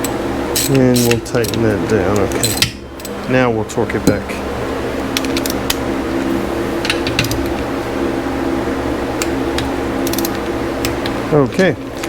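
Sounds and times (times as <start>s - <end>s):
air conditioner hum: 0.0s - 12.0s.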